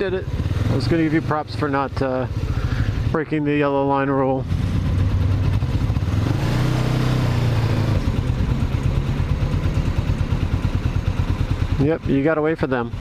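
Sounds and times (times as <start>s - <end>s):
motorcycle engine running: 0.0s - 13.0s
motorcycle idling: 0.0s - 13.0s.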